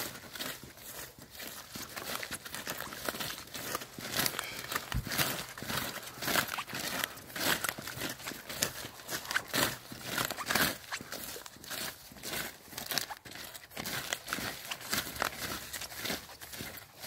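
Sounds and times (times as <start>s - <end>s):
plants crunching underfoot: 0.0s - 17.0s.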